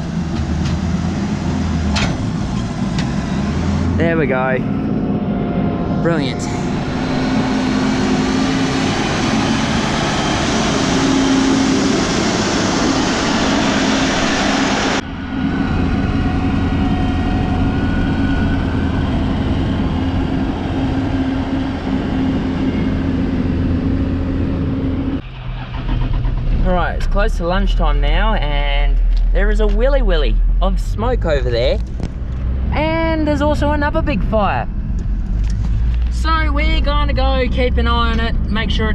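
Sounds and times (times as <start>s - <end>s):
vehicle engine rumbling: 0.0s - 38.9s.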